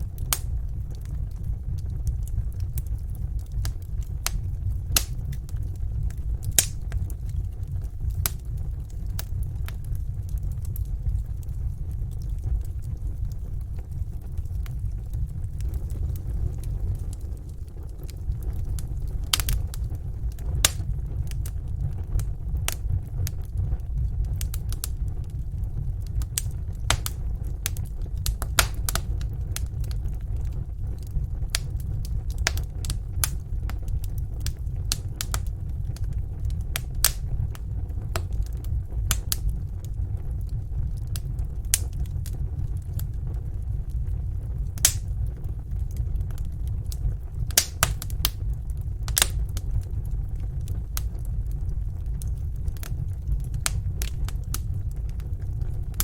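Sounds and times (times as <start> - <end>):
fire low rumble: 0.0 - 56.0
wood fire crackling and popping: 0.0 - 56.0.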